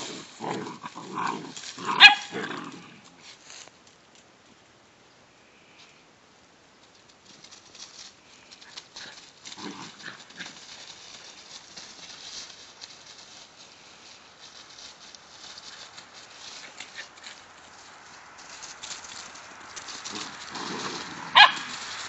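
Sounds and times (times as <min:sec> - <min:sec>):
dry leaves crunching and rustling: 0:00.0 - 0:03.9, 0:07.2 - 0:22.0.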